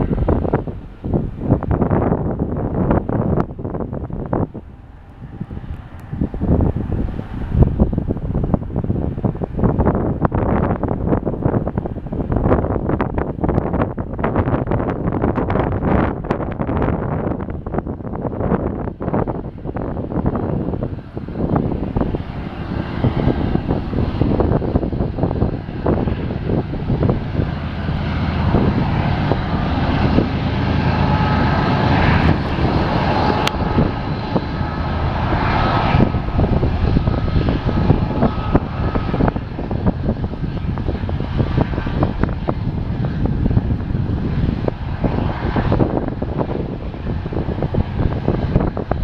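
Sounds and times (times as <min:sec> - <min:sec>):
diesel locomotives droning: 0:00.0 - 0:49.0.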